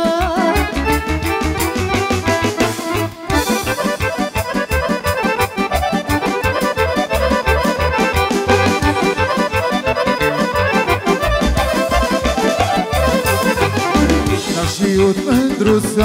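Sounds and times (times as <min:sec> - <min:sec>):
accordions playing folk dance tune: 0:00.0 - 0:16.0.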